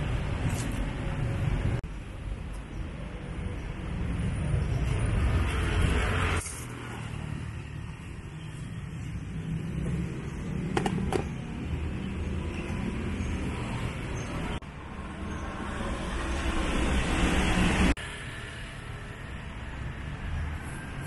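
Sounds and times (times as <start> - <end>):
passing cars and motorbikes: 3.0 - 21.0.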